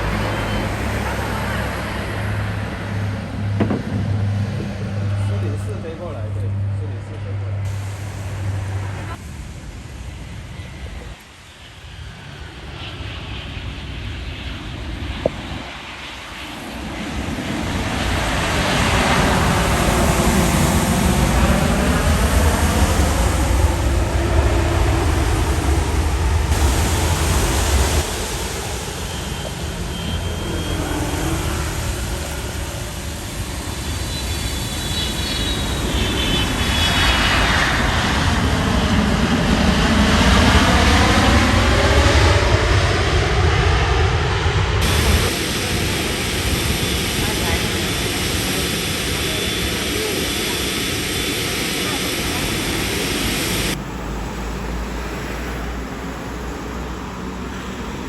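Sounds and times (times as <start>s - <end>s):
aircraft engines passing: 0.0s - 58.0s
high engine whine: 0.0s - 58.0s.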